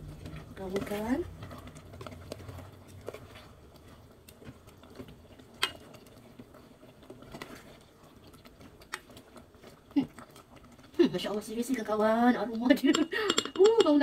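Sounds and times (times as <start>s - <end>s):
ladle knocking and scraping pot: 0.0s - 11.4s, 12.5s - 14.0s.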